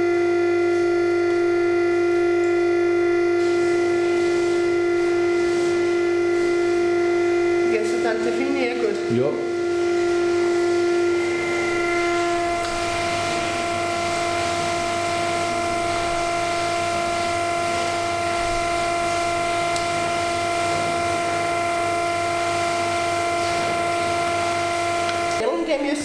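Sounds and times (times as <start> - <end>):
electric sausage filler whining: 0.0 - 26.0.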